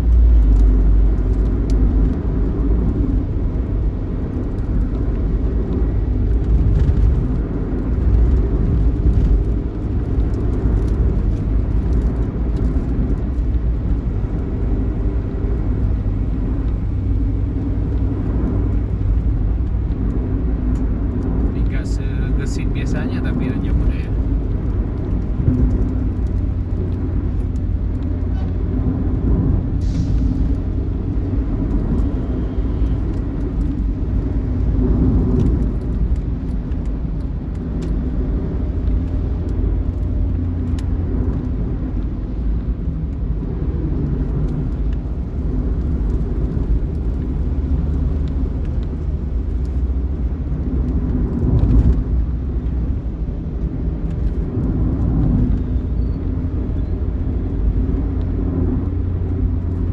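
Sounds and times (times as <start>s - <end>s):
bus engine running: 0.0s - 59.9s
low road rumble: 0.0s - 59.9s.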